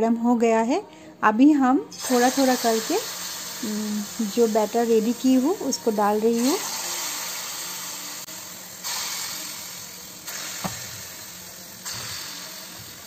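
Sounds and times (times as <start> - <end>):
batter sizzling in hot oil: 2.0 - 13.0.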